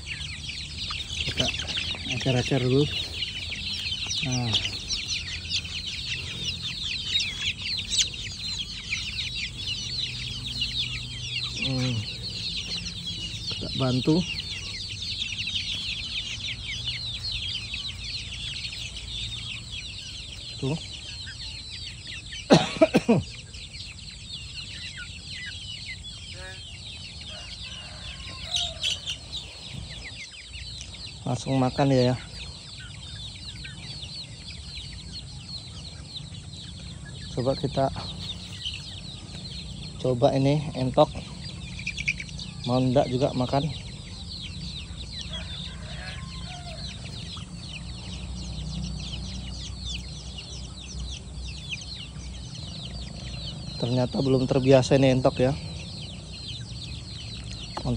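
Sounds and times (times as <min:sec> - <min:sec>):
chicken clucking: 0:00.0 - 0:57.9
chicks peeping: 0:00.0 - 0:57.9.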